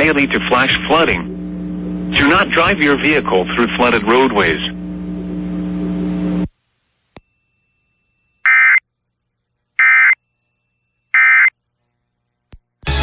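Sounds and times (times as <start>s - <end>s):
background hum: 0.0s - 12.8s.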